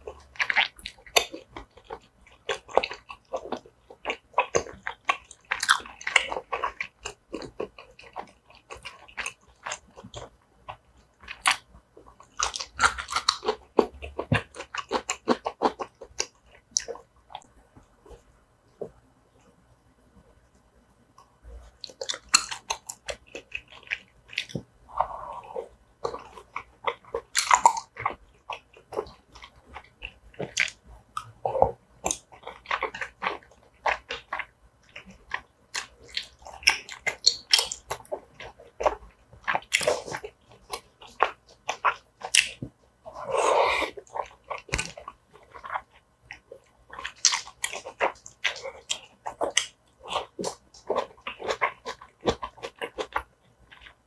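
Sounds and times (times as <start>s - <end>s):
wet chewing and mouth clicks: 0.0s - 19.5s, 20.5s - 54.0s.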